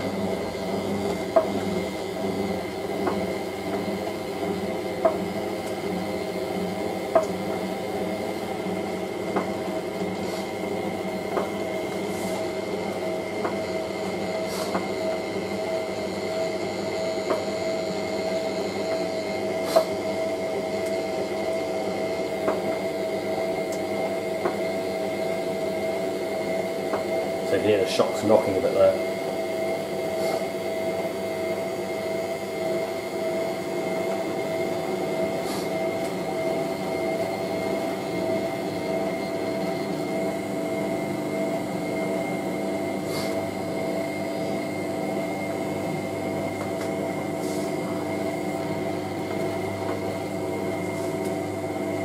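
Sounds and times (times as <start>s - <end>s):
washing machine draining: 0.0s - 52.0s.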